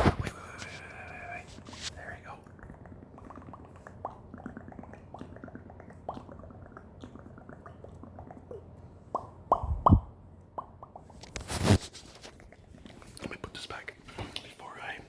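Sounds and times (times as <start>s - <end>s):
lip pops: 0.0s - 13.4s.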